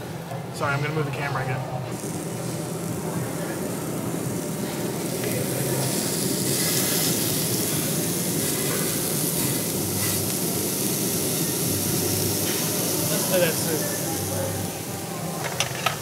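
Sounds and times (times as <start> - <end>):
meat sizzling on a grill plate: 1.9 - 16.0.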